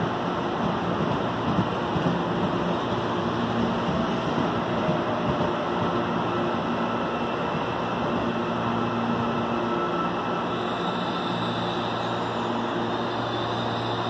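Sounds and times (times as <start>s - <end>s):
electric train pulling in: 0.0s - 14.0s
train rolling along platform: 0.0s - 14.0s.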